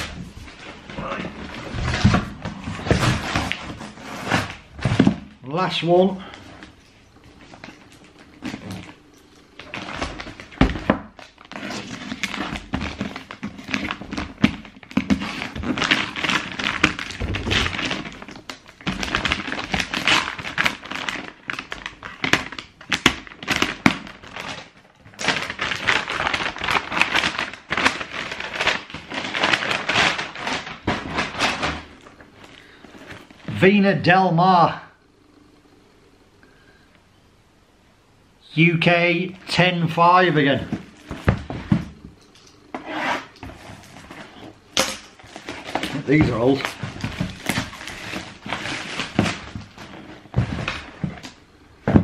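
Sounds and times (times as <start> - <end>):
packaging rustling and crinkling: 0.0 - 33.6, 40.5 - 52.0.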